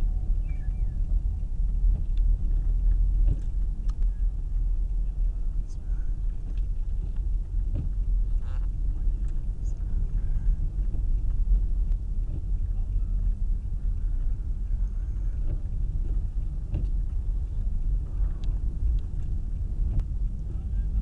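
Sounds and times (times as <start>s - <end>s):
car driving on snowy road: 0.0s - 21.0s.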